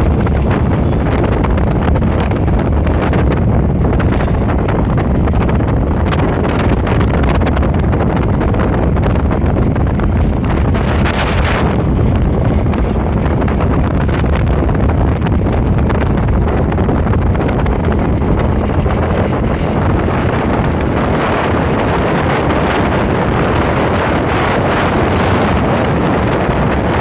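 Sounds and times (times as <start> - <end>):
vehicle and road rumble: 0.0 - 27.0
wind buffeting microphone: 0.0 - 27.0.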